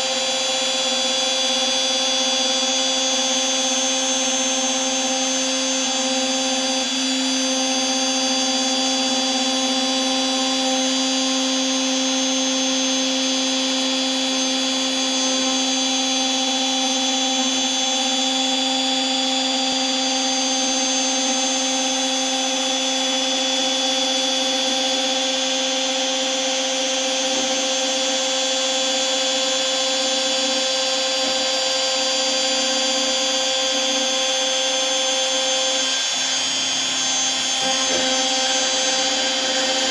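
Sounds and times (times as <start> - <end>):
router whining: 0.0 - 39.9.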